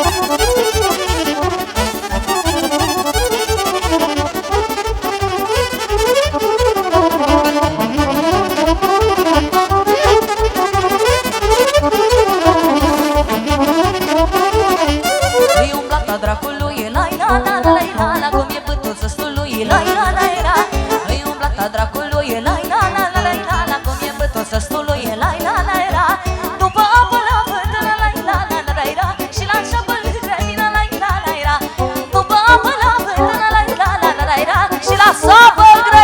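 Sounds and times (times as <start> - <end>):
live party band music: 0.0 - 36.0.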